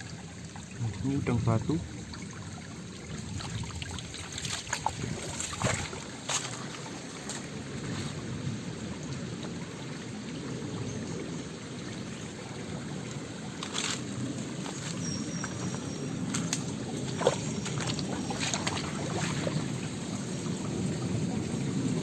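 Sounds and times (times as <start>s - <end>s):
stream trickling over rocks: 0.0s - 22.0s.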